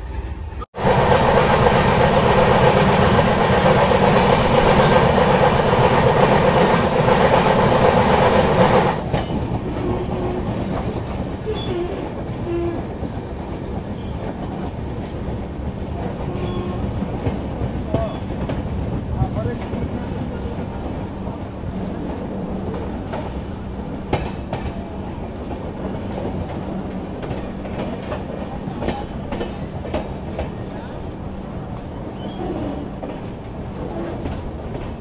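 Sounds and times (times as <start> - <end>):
train wheels rushing on track: 0.0 - 35.0.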